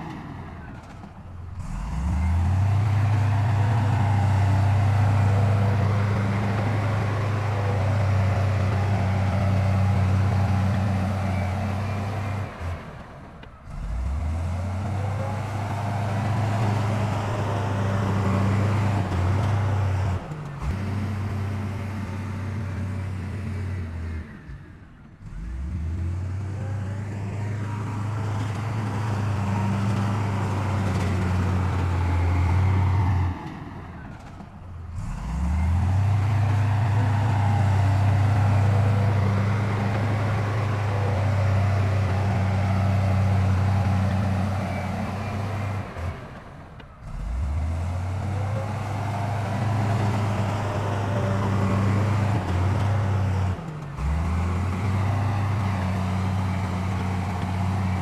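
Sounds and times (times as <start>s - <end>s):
heavy diesel engines droning: 0.0s - 58.0s.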